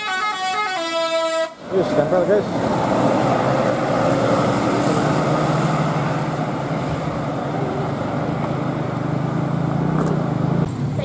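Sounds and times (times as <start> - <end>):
bus engine pulling away: 1.6 - 11.0
motorcycle passing: 1.8 - 11.0.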